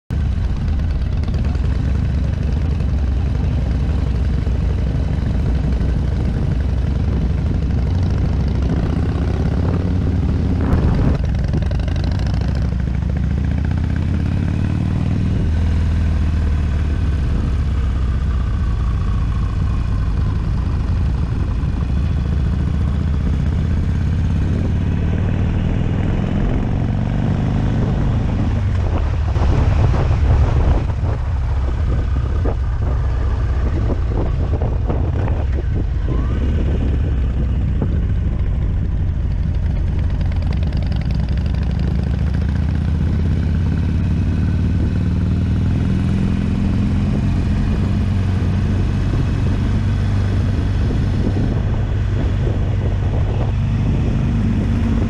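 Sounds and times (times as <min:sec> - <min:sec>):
motorcycle engine running: 0:00.1 - 0:55.0.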